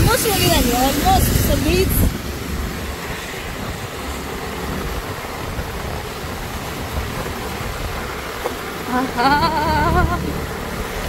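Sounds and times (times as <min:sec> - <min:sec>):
heavy rain: 0:00.0 - 0:11.0
scooter motor: 0:00.0 - 0:11.0
tyres on wet road: 0:00.0 - 0:11.0.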